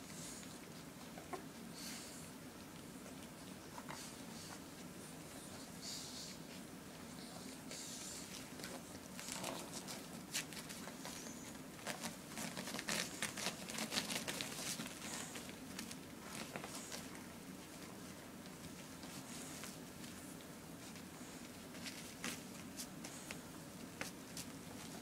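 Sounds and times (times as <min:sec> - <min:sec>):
puppies suckling clicks and smacks: 0:02.3 - 0:05.2, 0:06.4 - 0:25.0.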